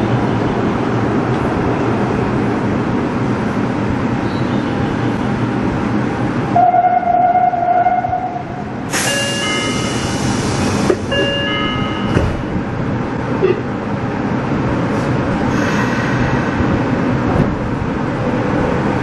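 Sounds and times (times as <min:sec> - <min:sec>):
train equipment and station noise: 0:00.0 - 0:19.0.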